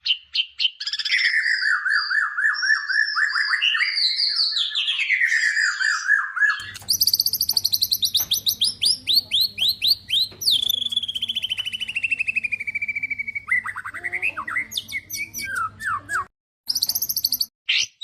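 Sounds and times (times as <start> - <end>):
bird warbling song: 0.0 - 18.0.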